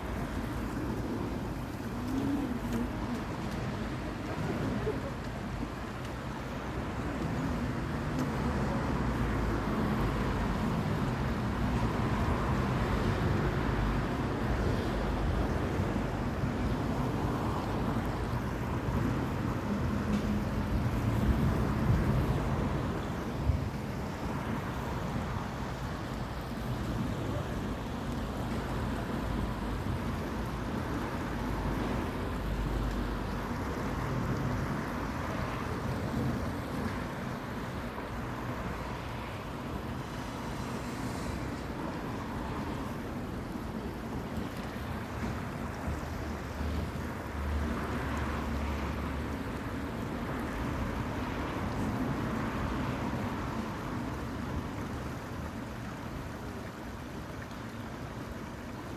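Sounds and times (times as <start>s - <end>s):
wind rumble on microphone: 0.0s - 58.9s.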